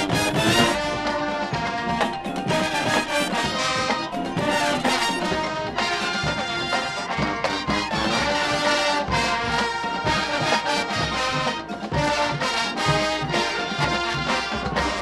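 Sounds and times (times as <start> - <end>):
brass horns holding chords: 0.0 - 15.0
marching band drums: 0.0 - 15.0.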